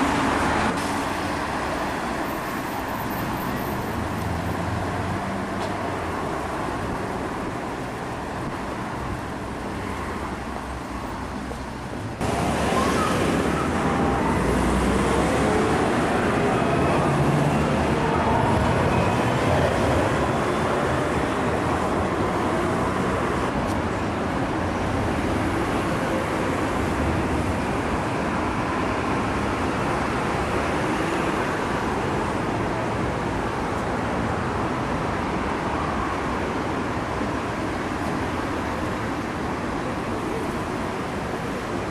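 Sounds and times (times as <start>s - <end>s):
road traffic: 0.0s - 41.9s
trams passing: 0.0s - 41.9s.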